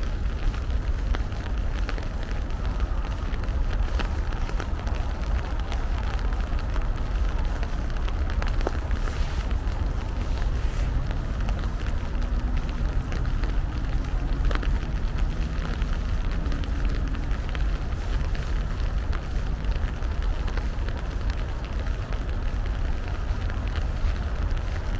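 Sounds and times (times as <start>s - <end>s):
deep low rumble: 0.0s - 24.9s
rain falling: 0.0s - 24.9s.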